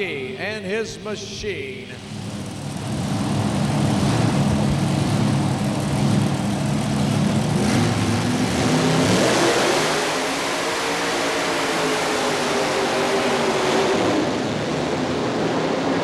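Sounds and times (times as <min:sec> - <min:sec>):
tractor engine at full power: 0:00.0 - 0:16.0.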